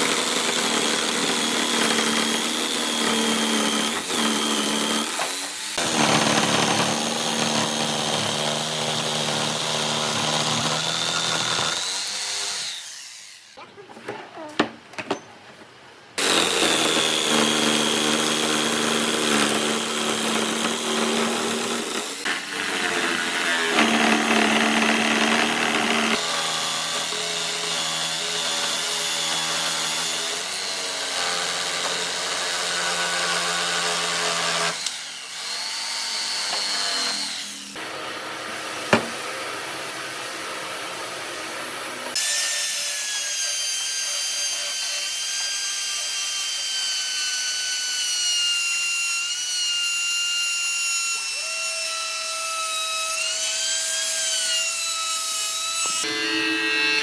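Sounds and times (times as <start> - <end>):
power tools on wood: 0.0 - 13.6, 16.2 - 57.0.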